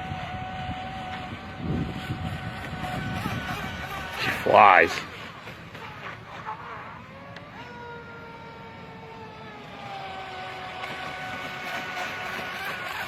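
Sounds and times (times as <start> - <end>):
electric boat motor whining: 0.0 - 13.0.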